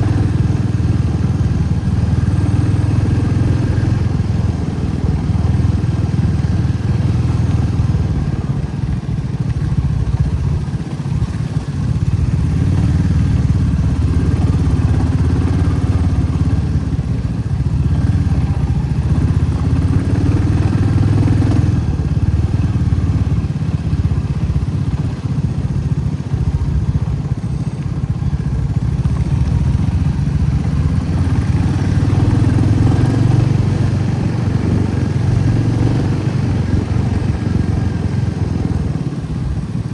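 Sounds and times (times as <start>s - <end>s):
motorcycle engine and road noise: 0.0s - 39.9s.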